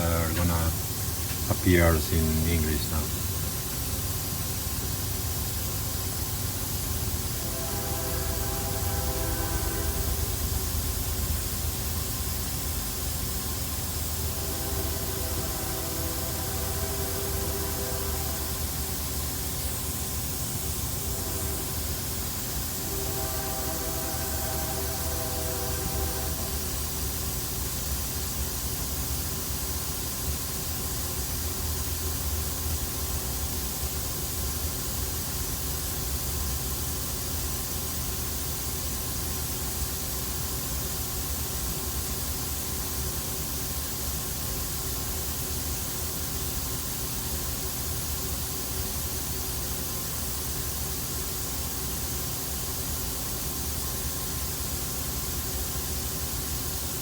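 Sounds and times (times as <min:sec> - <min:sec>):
machine hum and hiss: 0:00.0 - 0:57.0.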